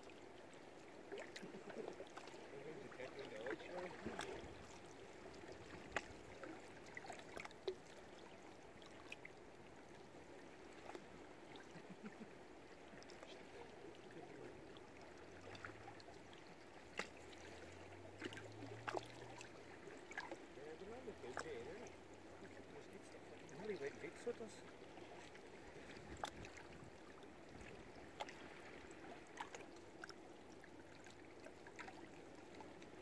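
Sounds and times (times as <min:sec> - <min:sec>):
water lapping and trickling: 0:00.0 - 0:33.0.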